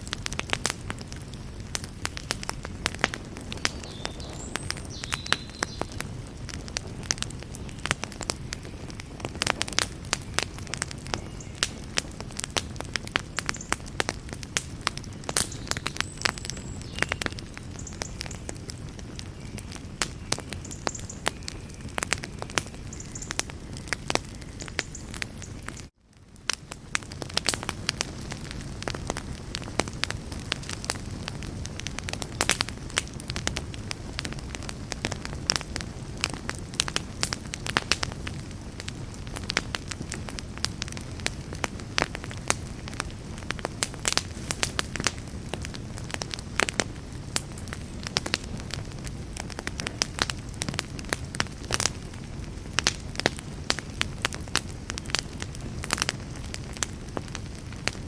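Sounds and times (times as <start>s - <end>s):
campfire flames rushing: 0.0s - 58.0s
fire crackles and pops: 0.0s - 58.0s.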